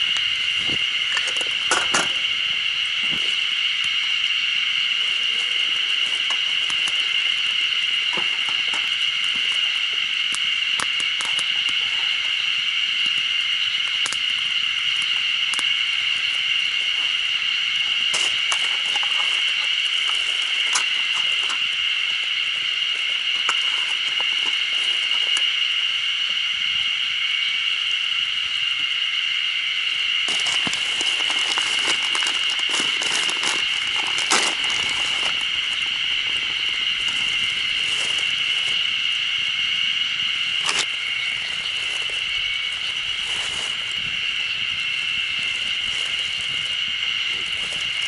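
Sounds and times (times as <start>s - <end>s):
campfire crackling and popping: 0.0s - 26.4s, 30.1s - 48.0s
steady high-pitched buzz: 0.0s - 48.0s.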